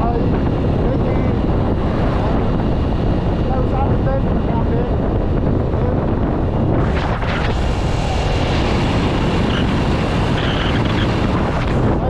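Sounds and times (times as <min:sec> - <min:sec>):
motorcycle engine and road rumble: 0:00.0 - 0:12.0
wind on microphone: 0:00.0 - 0:12.0.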